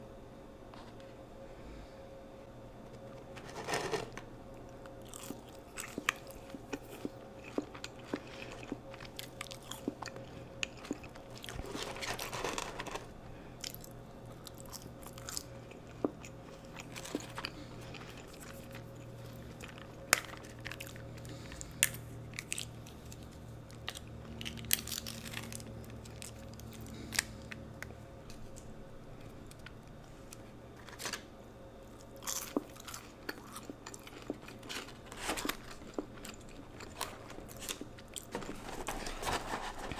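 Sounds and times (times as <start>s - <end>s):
faint steady hum: 0.0s - 39.9s
person crunching and chewing food: 3.4s - 39.9s.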